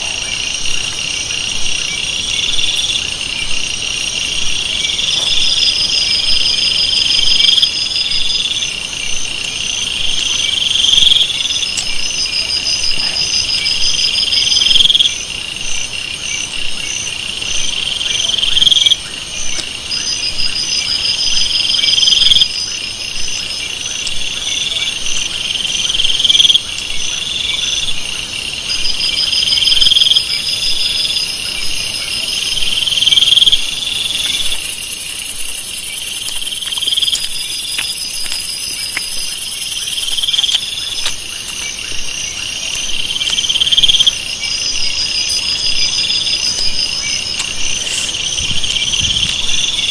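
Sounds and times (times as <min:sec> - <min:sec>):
buzzing insect call: 0:00.0 - 0:49.9
rapid pulsed cricket trilling: 0:00.0 - 0:49.9.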